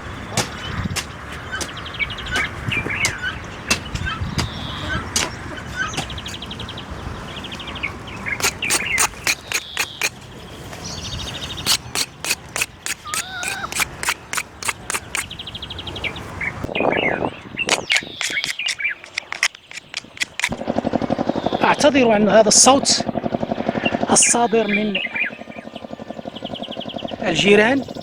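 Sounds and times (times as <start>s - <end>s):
birds chirping and trilling: 0.0s - 28.0s.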